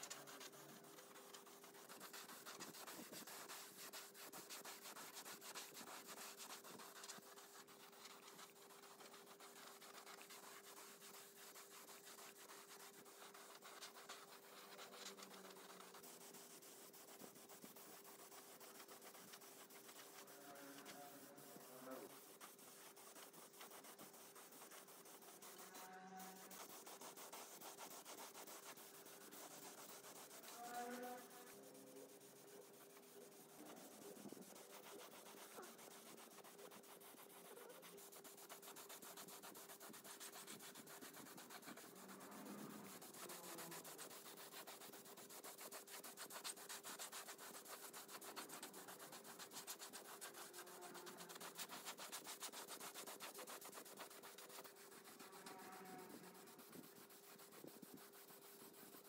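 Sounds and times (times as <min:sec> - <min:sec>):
sanding strokes: 0:00.0 - 0:59.0.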